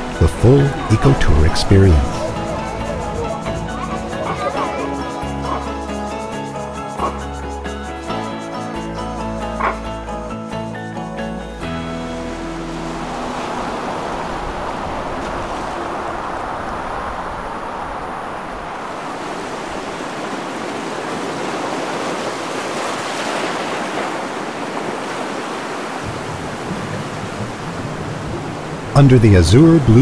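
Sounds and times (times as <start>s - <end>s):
waves breaking on shore: 0.0s - 8.6s, 11.6s - 30.0s.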